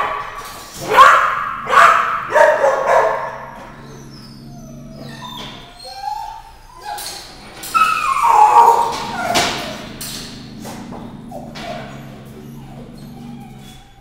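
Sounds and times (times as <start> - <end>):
dog whining: 0.9 - 14.0.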